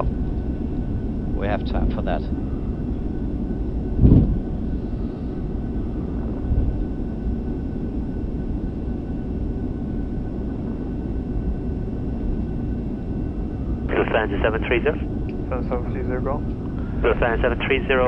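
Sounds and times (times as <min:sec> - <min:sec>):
airliner cockpit rumble: 0:00.0 - 0:18.0
faint high hum: 0:00.0 - 0:18.0.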